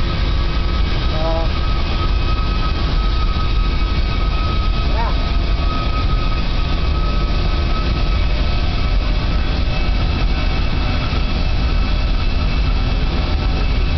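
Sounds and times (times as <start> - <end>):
jet engine deep rumble: 0.0 - 13.9
jet engine whine: 0.0 - 13.9.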